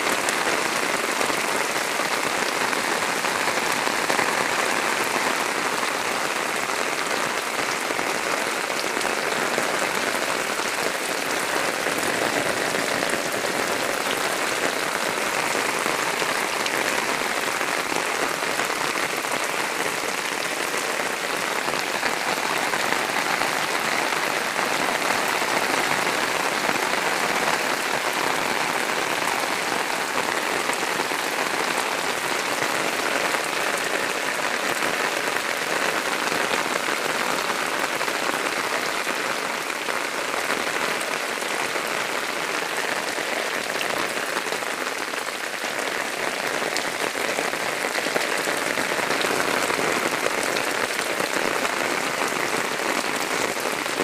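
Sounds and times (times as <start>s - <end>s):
rain on mud and puddles: 0.0s - 54.0s.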